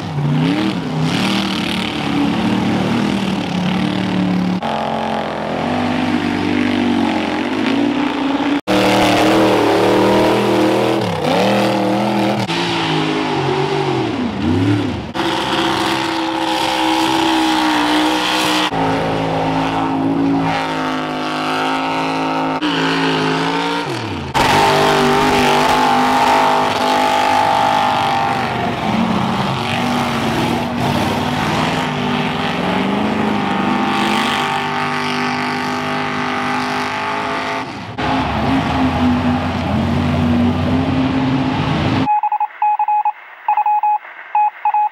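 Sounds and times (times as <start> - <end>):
truck engines revving hard: 0.0 - 42.1.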